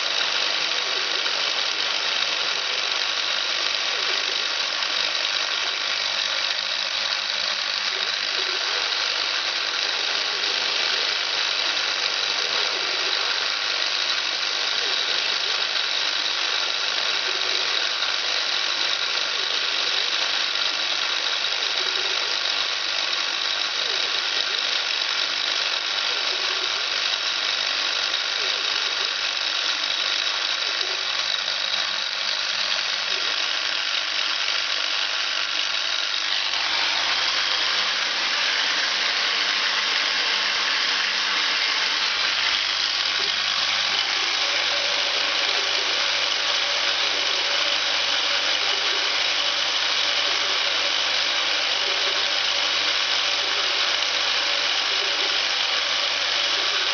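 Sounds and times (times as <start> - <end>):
milling machine whining: 0.0 - 56.9.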